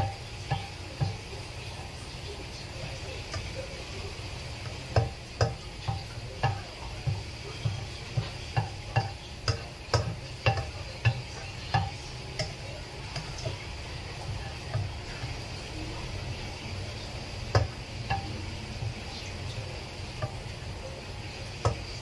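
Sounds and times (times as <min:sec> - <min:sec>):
faint sizzle: 0:00.0 - 0:22.0
spatula scraping a frying pan: 0:00.0 - 0:22.0.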